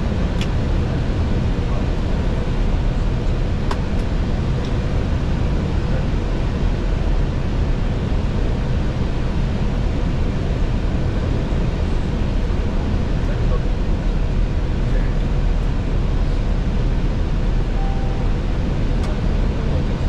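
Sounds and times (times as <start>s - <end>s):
aircraft cockpit air and engine noise: 0.0s - 20.0s.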